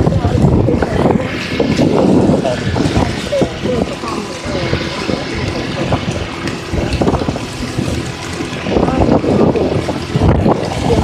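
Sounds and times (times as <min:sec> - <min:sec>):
scooter engine running: 0:00.0 - 0:11.0
water splashing: 0:00.0 - 0:11.0
wind buffeting microphone: 0:00.0 - 0:11.0.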